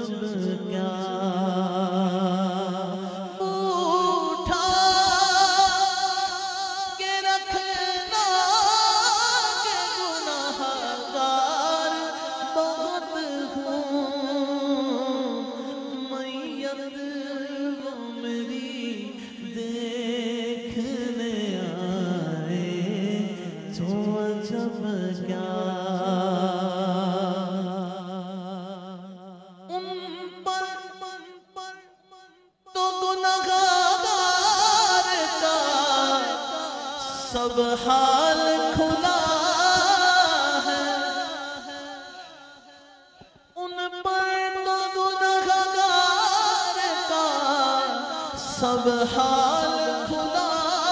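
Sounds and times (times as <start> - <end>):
man singing into a microphone: 0.0 - 50.9.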